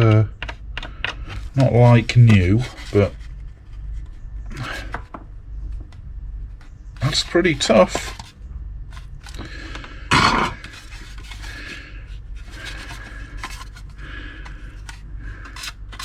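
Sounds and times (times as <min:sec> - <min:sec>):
scraping on hard plastic: 0:00.0 - 0:05.2, 0:07.0 - 0:16.0.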